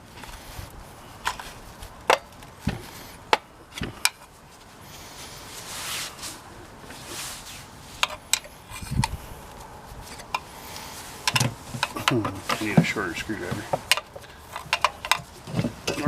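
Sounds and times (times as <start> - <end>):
metal scraping: 0.0 - 16.0.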